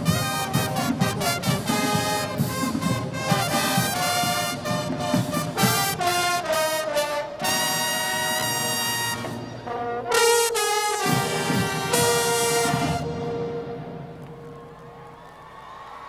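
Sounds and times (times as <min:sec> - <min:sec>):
marching band brass playing: 0:00.0 - 0:15.2.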